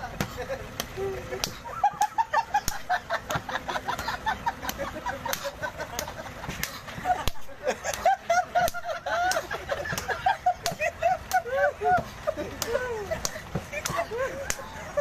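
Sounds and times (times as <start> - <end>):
hand slapping: 0.2 - 3.5, 4.7 - 14.7.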